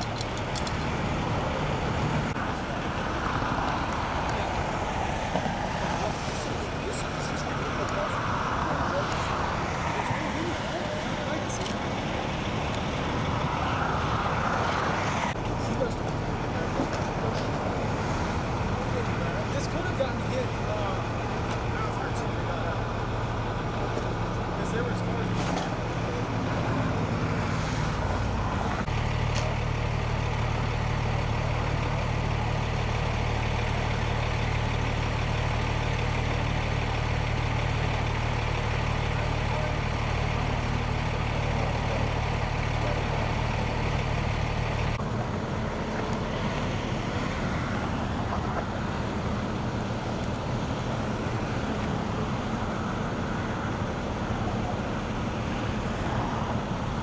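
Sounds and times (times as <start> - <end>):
engine idling: 0.0 - 57.0
freeway traffic rushing by: 0.0 - 57.0.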